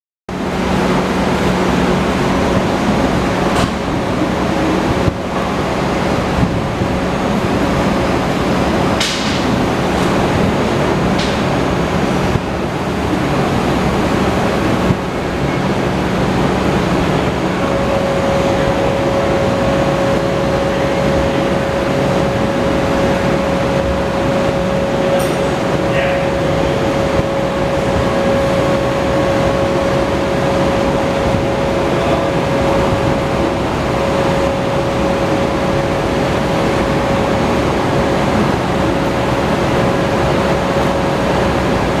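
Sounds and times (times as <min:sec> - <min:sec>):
higher steady tone: 0:00.3 - 0:42.0.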